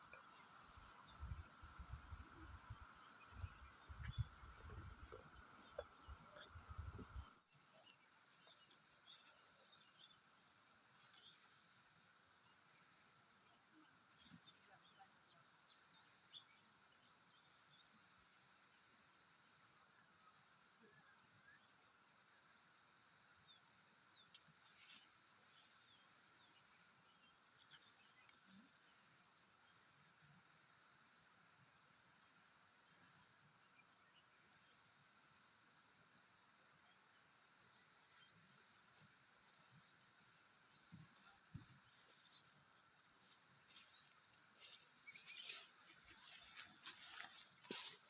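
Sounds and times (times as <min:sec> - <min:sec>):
insect drone: 0:00.0 - 0:48.0.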